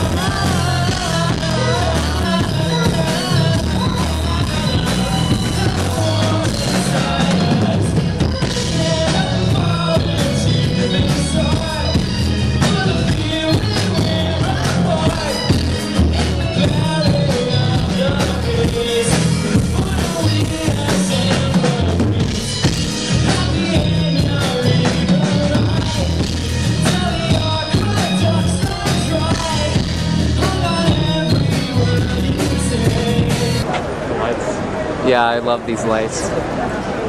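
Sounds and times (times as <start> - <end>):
person singing: 0.0 - 33.7
drums: 0.0 - 34.8
electric guitars: 0.0 - 35.0
keyboards: 0.0 - 37.0.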